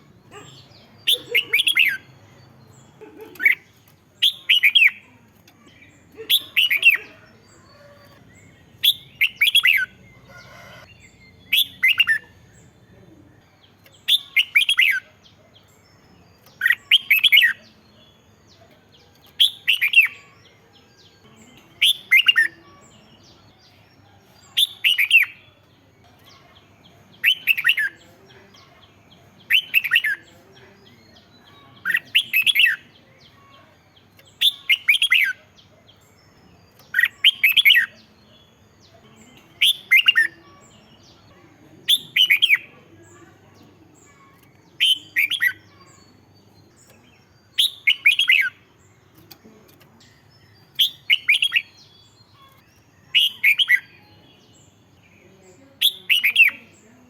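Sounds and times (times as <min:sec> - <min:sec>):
bulbul singing warbled phrases: 0:00.0 - 0:10.3, 0:10.9 - 0:57.0.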